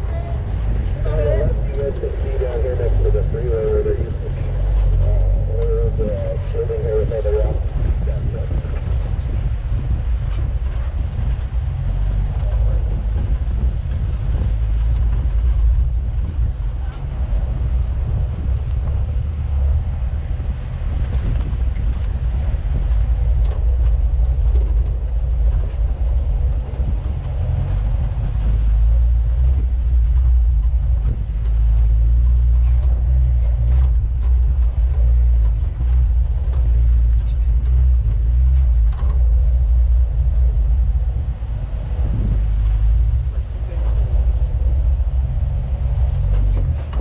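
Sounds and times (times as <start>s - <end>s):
off-road vehicle engine rumble: 0.0s - 47.0s.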